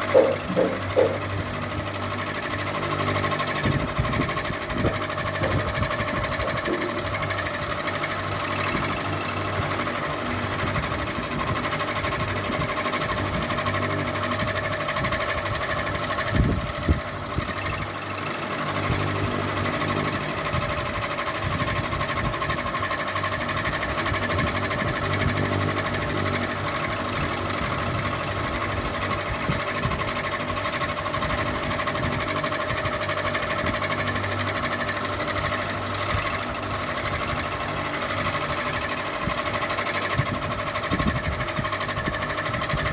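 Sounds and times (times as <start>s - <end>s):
ceiling fan whirring: 0.0s - 42.9s.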